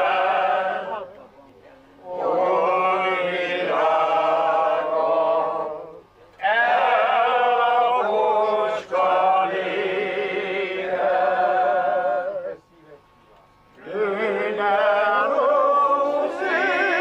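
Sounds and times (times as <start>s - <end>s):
group singing unaccompanied: 0.0s - 1.3s, 2.0s - 12.6s, 13.8s - 17.0s.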